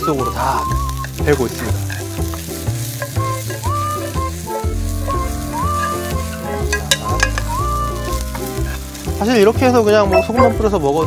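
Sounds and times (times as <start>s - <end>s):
background music with sliding melody: 0.0s - 11.0s
food sizzling in a frying pan: 0.0s - 11.0s.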